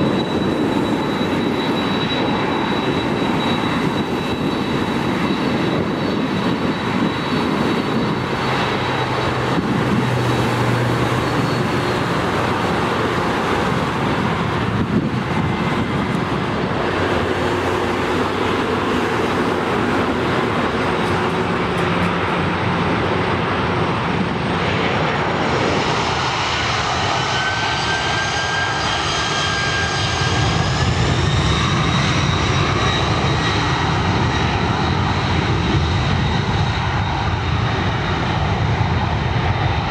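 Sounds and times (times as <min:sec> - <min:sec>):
high turbine whine: 0:00.0 - 0:39.9
jet engines rushing: 0:00.0 - 0:39.9.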